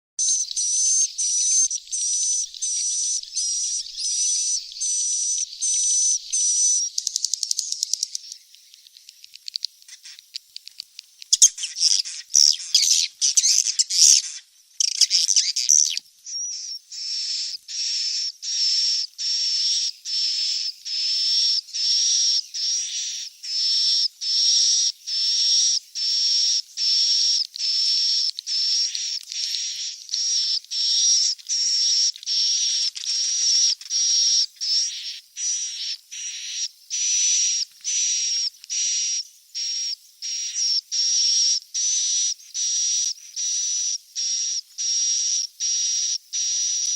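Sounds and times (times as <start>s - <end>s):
buzzy chirping of bird chicks: 0.2s - 46.9s
jumbled twittering: 0.2s - 46.9s
rapid ticking calls: 0.2s - 46.9s.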